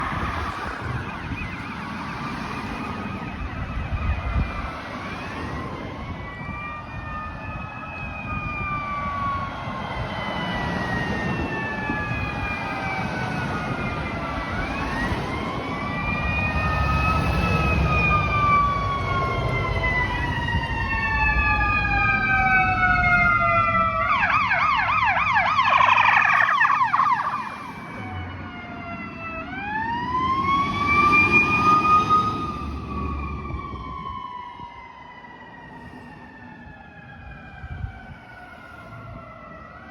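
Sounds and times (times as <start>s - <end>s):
fire engine sirens wailing: 0.0s - 39.9s
fast siren yelp: 0.2s - 39.9s.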